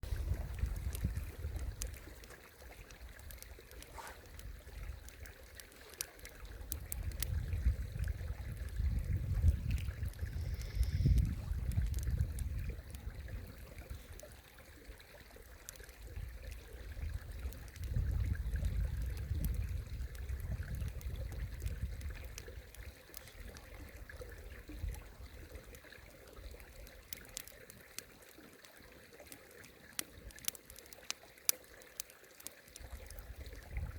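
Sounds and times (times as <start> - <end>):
campfire crackling and popping: 0.0 - 33.9.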